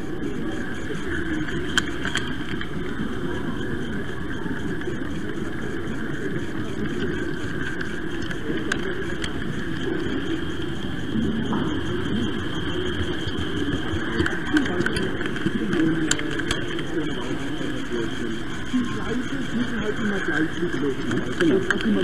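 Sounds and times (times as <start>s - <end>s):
sharp clicks: 0.0s - 22.0s.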